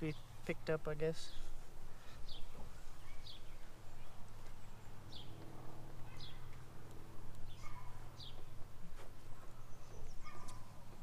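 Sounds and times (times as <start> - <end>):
bird chirping: 0.0 - 6.7, 7.3 - 11.0.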